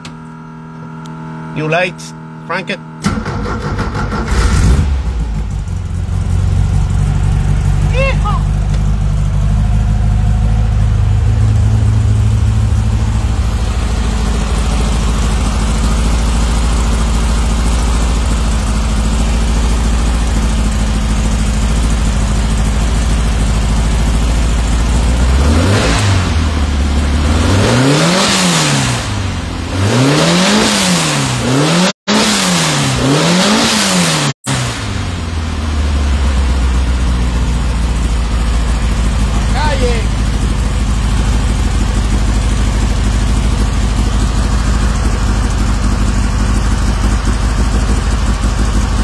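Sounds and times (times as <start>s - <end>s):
car engine idling and revving: 3.0s - 49.0s.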